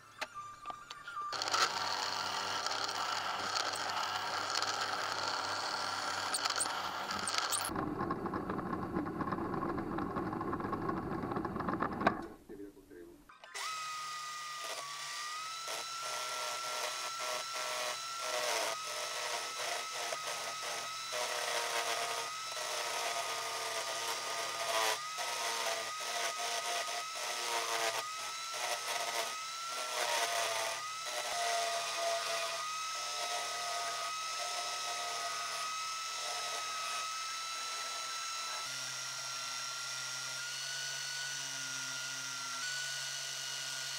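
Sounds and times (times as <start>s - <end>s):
power drill whining: 0.0s - 12.2s, 13.4s - 43.9s.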